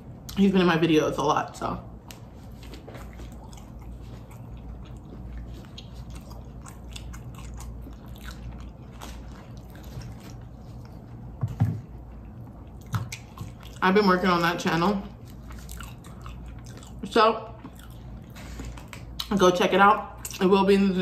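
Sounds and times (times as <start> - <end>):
low steady hum: 0.0 - 21.0
biting and chewing crisp food: 1.9 - 19.3.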